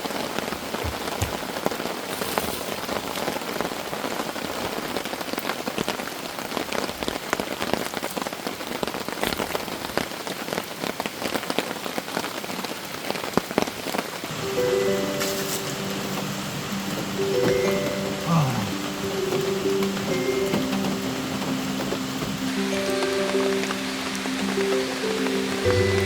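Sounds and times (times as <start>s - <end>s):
heavy rain: 0.0s - 26.0s
raindrops striking close by: 0.0s - 26.0s.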